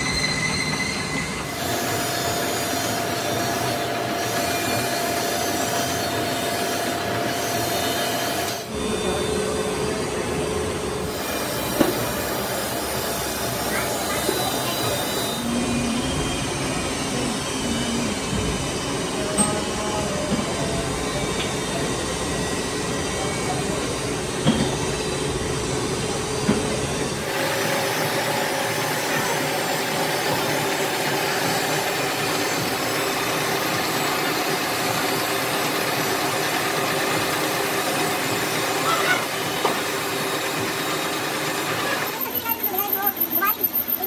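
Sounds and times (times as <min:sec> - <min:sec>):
metal lathe cutting: 0:00.0 - 0:10.4, 0:11.0 - 0:44.0.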